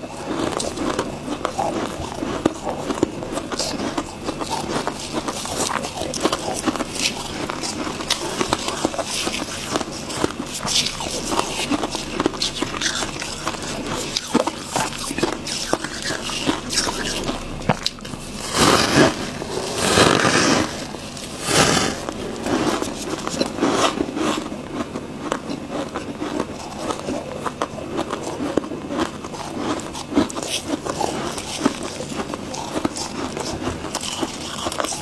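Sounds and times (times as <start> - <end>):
frost crunching while chewed: 0.0 - 35.0.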